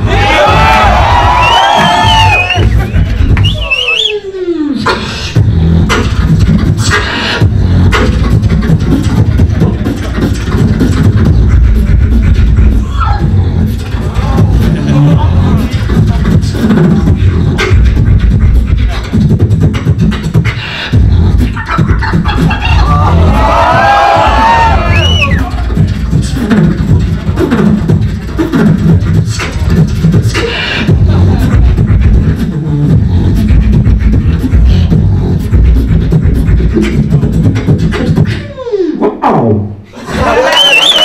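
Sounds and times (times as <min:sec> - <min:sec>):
beatboxing into microphone: 0:00.0 - 0:41.0
wavering vocal line: 0:03.6 - 0:39.7.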